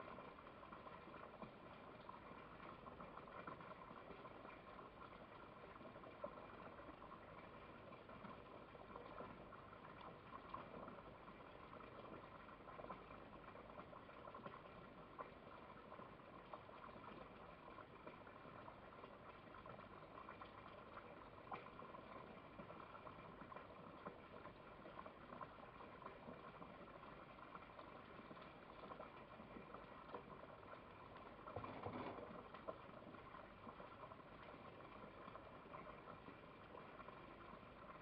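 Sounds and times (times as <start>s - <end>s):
faint steady hiss: 0.0s - 38.0s.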